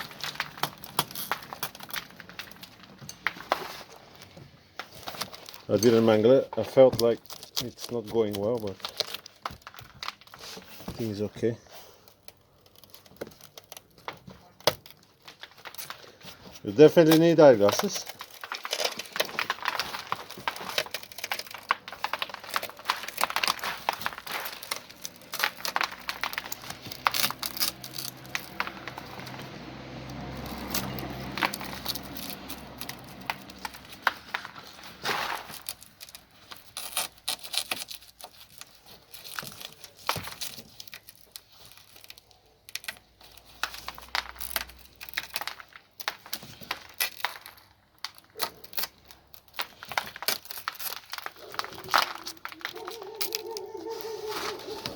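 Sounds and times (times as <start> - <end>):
broken glass crackling and crunching: 0.0 - 54.9.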